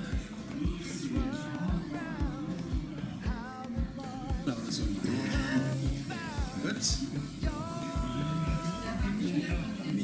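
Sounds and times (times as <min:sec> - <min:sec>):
person singing: 0:00.0 - 0:10.0
pop music with drum beat: 0:00.0 - 0:10.0.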